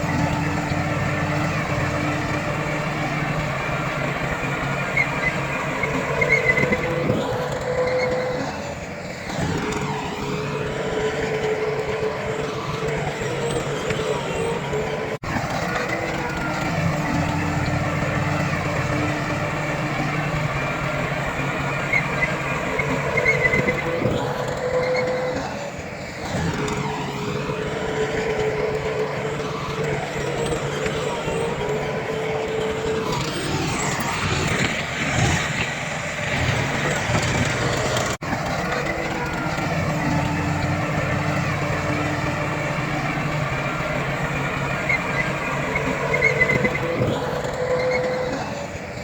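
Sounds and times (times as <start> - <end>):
diesel earthmoving machinery: 0.0 - 49.0.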